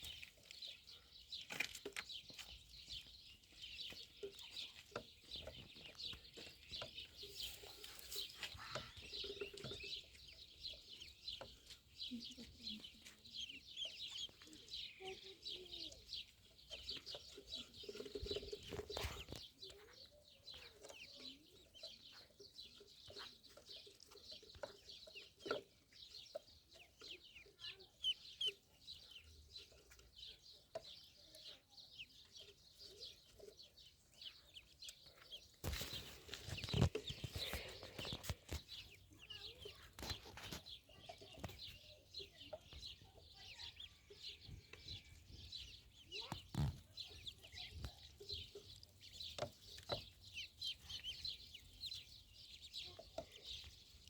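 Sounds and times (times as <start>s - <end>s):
ducklings peeping: 0.0s - 54.0s.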